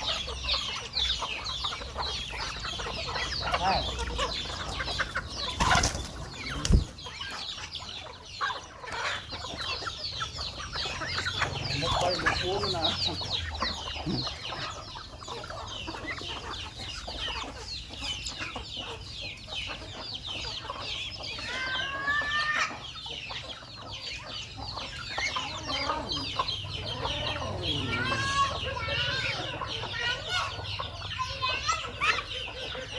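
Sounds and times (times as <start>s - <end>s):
loud poultry call: 0.0s - 32.9s
poultry clucking and peeping: 0.0s - 32.9s.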